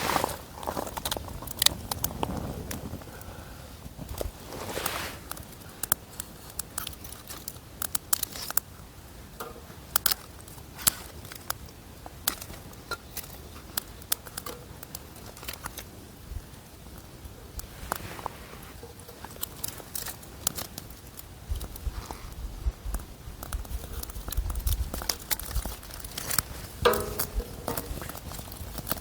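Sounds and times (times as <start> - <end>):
low background noise: 0.0 - 29.0
sharp clicks and crackles: 0.6 - 3.3, 5.2 - 8.8, 9.4 - 15.9, 16.9 - 29.0.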